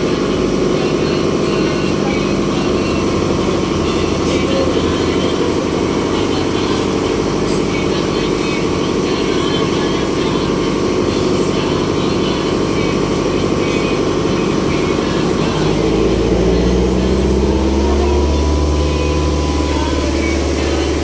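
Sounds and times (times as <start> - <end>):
ferry engine running: 0.0 - 21.0
thin high whine: 0.0 - 21.0.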